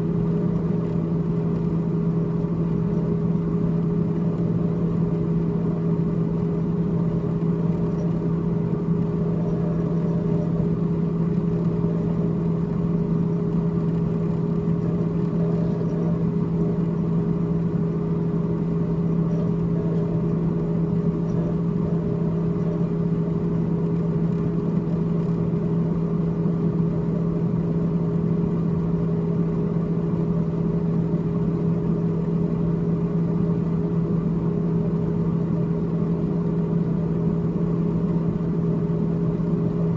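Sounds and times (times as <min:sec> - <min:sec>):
freezer fan hum: 0:00.0 - 0:39.9.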